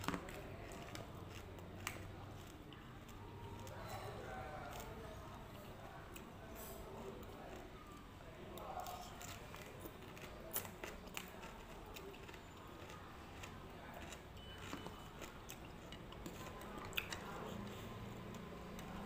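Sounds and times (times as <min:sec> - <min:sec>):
person chewing crunchy salad: 0:00.0 - 0:19.0.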